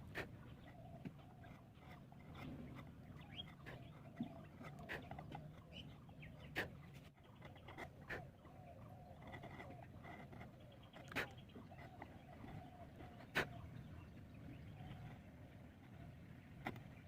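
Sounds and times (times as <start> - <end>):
faint bird chirps: 0.4 - 17.0.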